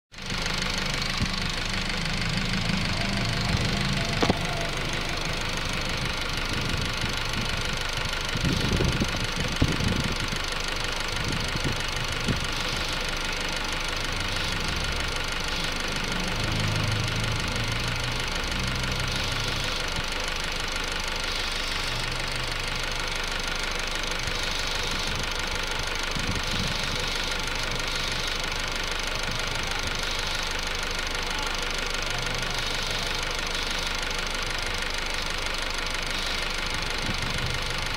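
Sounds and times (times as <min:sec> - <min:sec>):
car engine running: 0:00.1 - 0:37.9.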